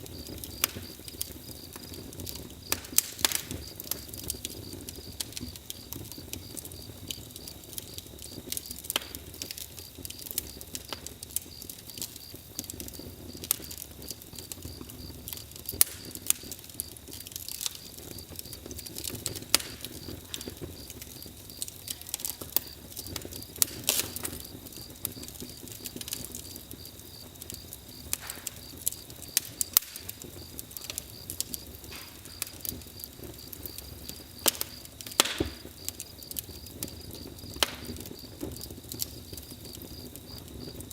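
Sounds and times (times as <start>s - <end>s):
campfire crackling and popping: 0.0s - 40.9s
fire low hiss: 0.0s - 40.9s.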